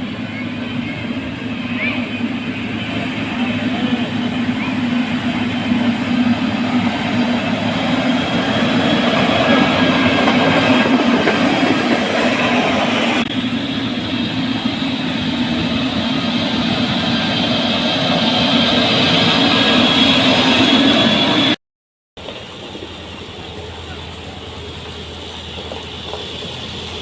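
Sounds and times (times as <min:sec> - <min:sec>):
heavy construction machinery rumbling: 0:00.0 - 0:21.6, 0:22.2 - 0:27.0.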